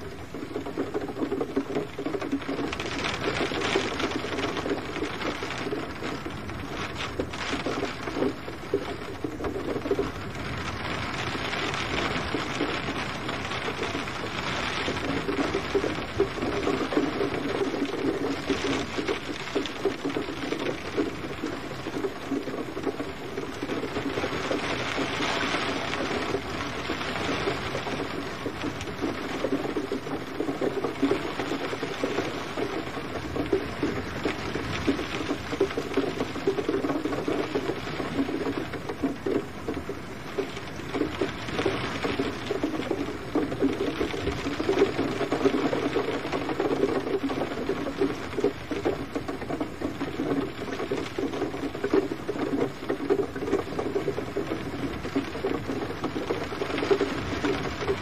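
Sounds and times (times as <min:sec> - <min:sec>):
steady gentle rain: 0:00.0 - 0:58.0.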